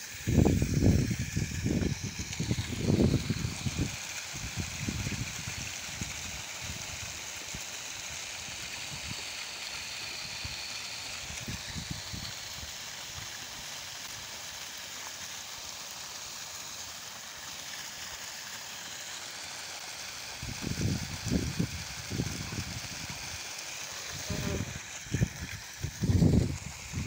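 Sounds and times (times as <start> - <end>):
droplets pattering on leaves: 0.0 - 8.0, 8.9 - 27.0
sprinklers spraying water: 0.0 - 27.0.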